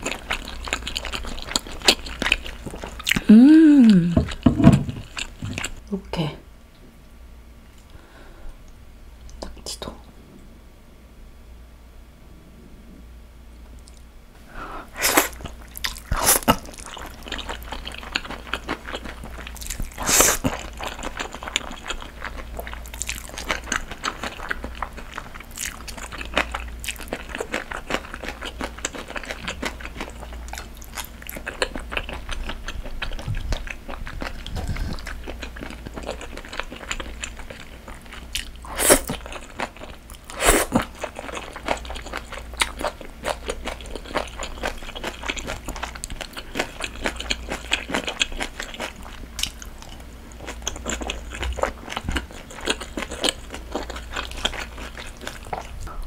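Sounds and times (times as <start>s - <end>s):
chewing and wet mouth sounds: 0.0s - 5.8s, 13.8s - 14.1s, 15.0s - 56.0s.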